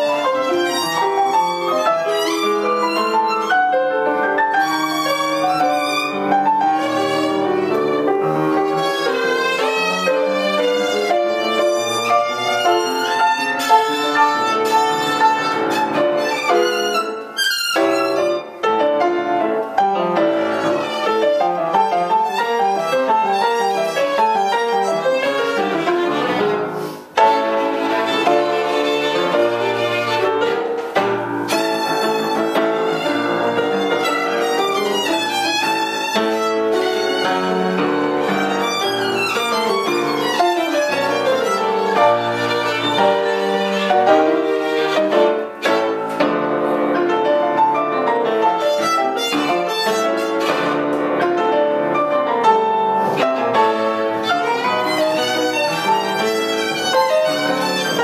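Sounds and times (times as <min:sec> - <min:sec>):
violin and piano duo: 0:00.0 - 0:58.0.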